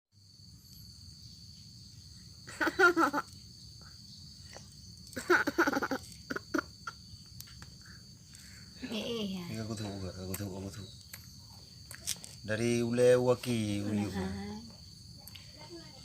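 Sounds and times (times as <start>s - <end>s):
crickets chirring: 0.2s - 16.0s.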